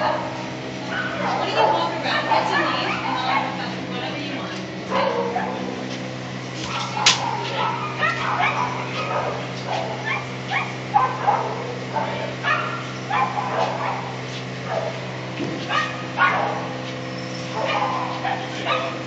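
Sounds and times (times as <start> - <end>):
dogs barking and yipping: 0.0 - 4.0, 4.8 - 6.0, 6.6 - 19.0
steady low hum: 0.0 - 19.0.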